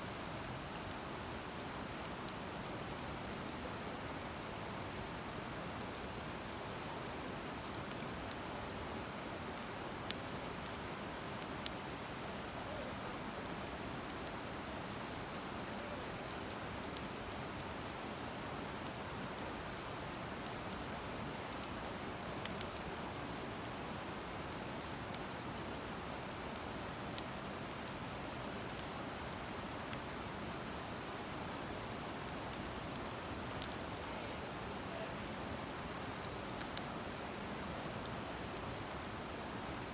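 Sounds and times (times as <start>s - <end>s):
campfire crackling and popping: 0.2s - 39.9s.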